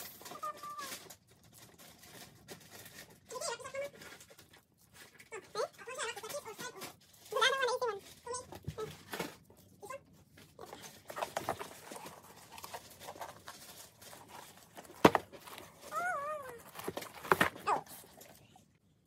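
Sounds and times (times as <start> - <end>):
wrapping paper rustling: 0.0 - 18.6.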